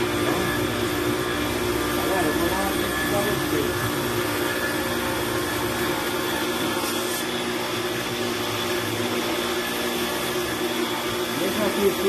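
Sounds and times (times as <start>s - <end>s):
pressure washer motor humming: 0.0s - 12.0s.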